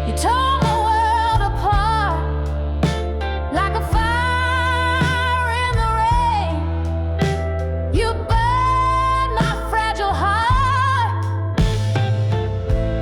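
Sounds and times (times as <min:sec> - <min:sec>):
slow blues ballad music: 0:00.0 - 0:13.0.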